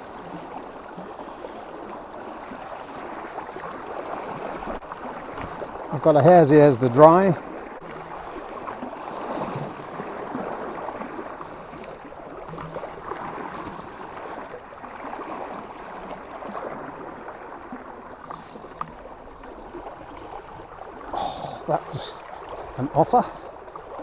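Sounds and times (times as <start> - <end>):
fast river rushing and gurgling: 0.0 - 24.0.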